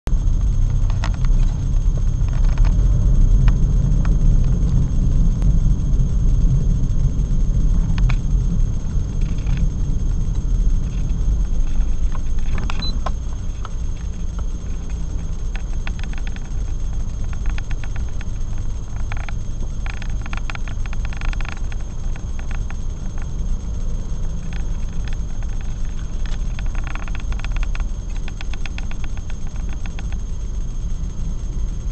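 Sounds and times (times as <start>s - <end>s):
car engine rumble inside cabin: 0.1s - 31.9s
scattered clicks: 0.2s - 2.8s, 6.2s - 31.8s.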